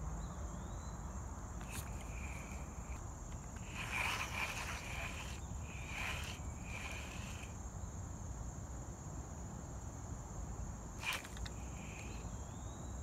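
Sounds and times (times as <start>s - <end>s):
insects trilling: 0.1s - 13.0s
low insect buzz: 0.2s - 13.0s.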